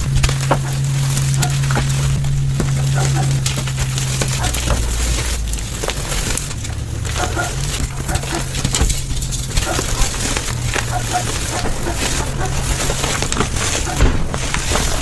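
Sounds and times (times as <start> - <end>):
chalk crushing and crackling: 0.0 - 15.0
steady low hum: 0.0 - 15.0.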